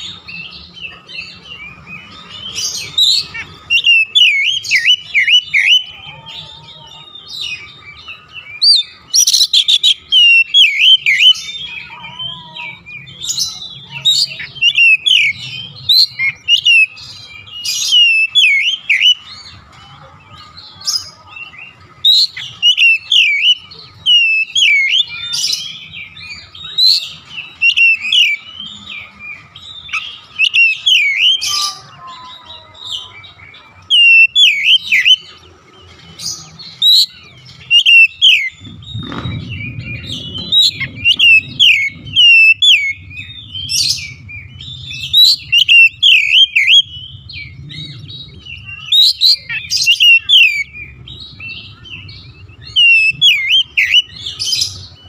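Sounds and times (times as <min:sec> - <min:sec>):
bird singing whistles and chirps: 0:00.0 - 0:19.6, 0:20.7 - 0:55.0.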